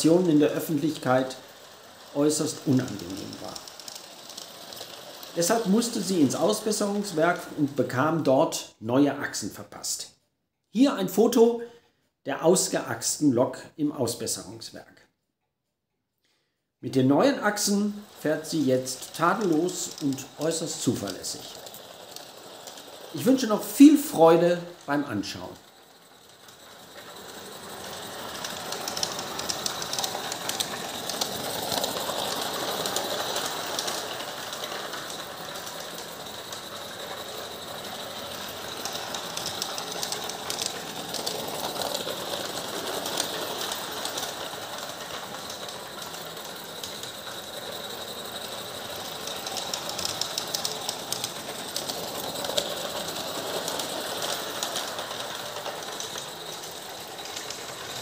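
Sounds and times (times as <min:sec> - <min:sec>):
model steam locomotive chuffing: 0:00.0 - 0:08.2, 0:16.9 - 0:58.0.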